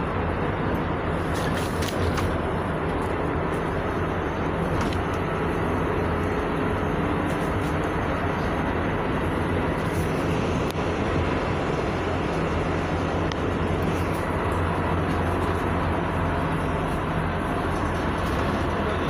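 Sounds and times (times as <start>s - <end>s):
engine drone: 0.0s - 19.0s
road noise: 0.0s - 19.0s.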